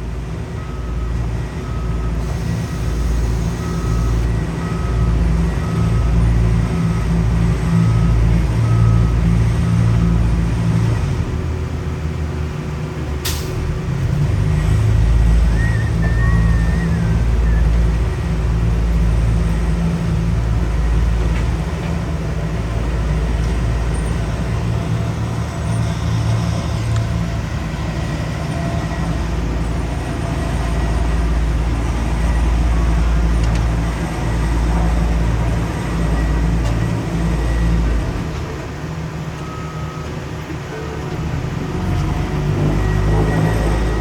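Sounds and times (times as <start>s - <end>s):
diesel paving machine droning: 0.0s - 44.0s.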